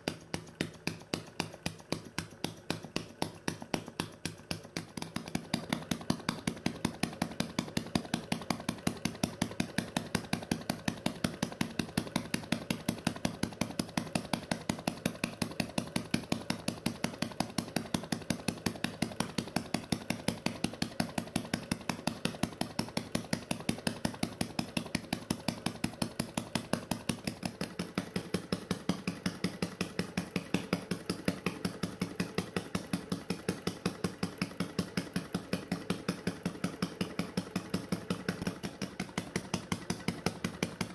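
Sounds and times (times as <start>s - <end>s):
model engine running: 0.0s - 40.9s.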